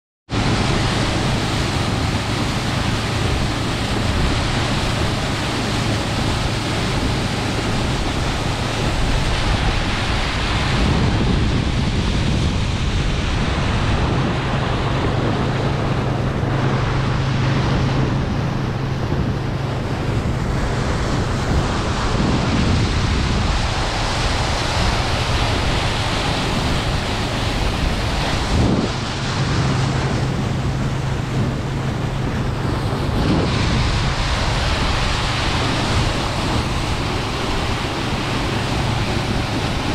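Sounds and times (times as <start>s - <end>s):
outboard motor drone: 0.3s - 39.9s
water rushing off hull: 0.3s - 39.9s
wind buffeting microphone: 0.3s - 39.9s.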